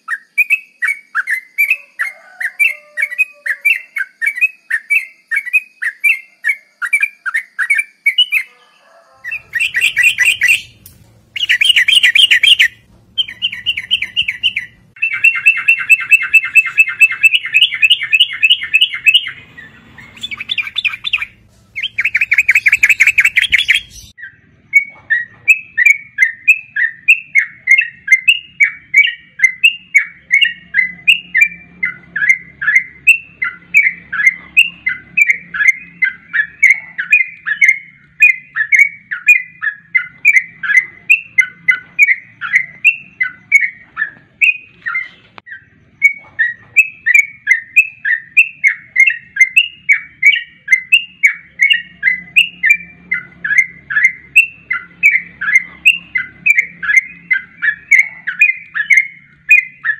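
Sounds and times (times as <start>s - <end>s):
bird song recording: 0.0s - 59.9s.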